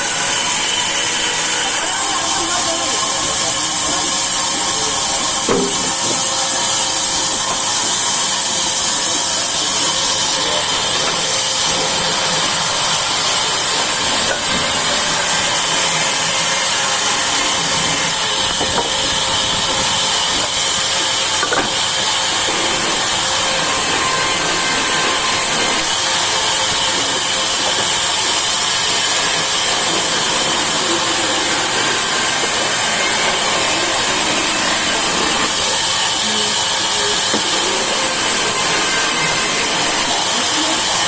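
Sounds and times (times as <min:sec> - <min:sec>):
sawmill saw running: 0:00.0 - 0:41.0.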